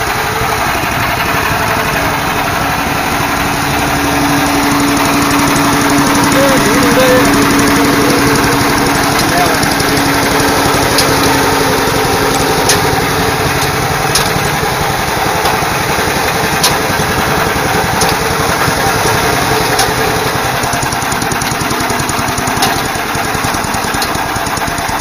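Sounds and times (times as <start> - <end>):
blower air rushing: 0.0 - 25.0
petrol engine running: 0.0 - 25.0
sharp ticks: 4.3 - 25.0.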